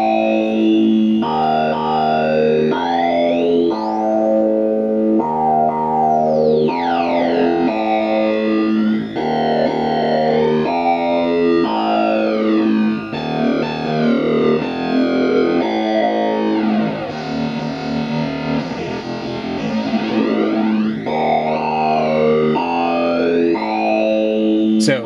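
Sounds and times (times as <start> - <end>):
synthesizer stepped note sequence: 0.0 - 25.0.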